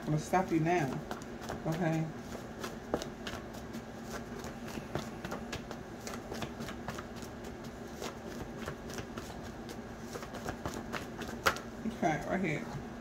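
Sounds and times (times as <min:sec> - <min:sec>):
cards being shuffled: 0:00.4 - 0:11.7.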